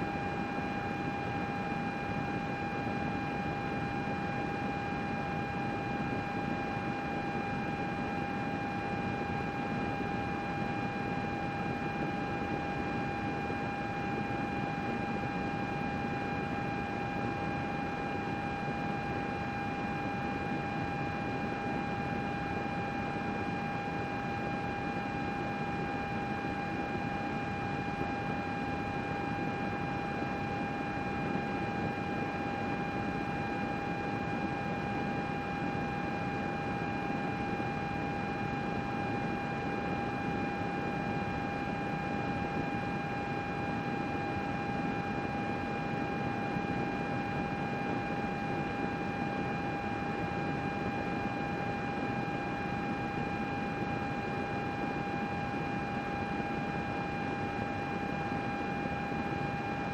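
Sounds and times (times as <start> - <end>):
computer cooling fans whirring: 0.0 - 59.9.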